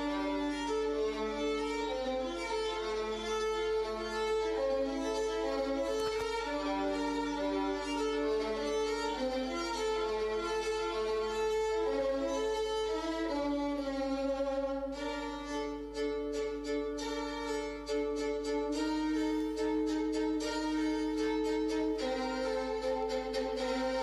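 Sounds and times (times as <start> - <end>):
violin music: 0.0 - 24.0.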